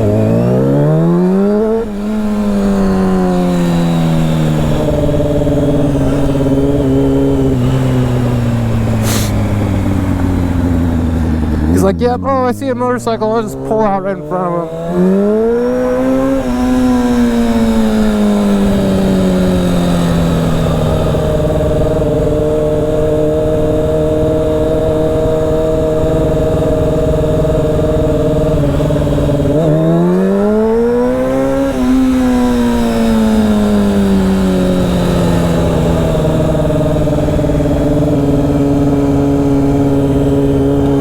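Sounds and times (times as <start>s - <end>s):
motorcycle engine cruising and revving: 0.0s - 41.0s.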